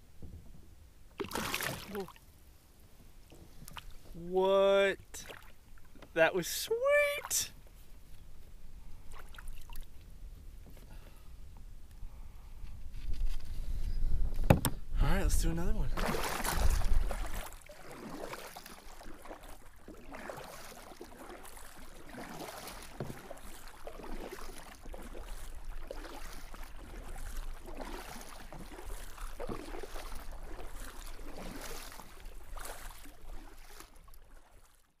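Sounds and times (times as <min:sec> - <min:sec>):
kayak paddle splashing: 0:01.1 - 0:11.1, 0:15.6 - 0:35.0.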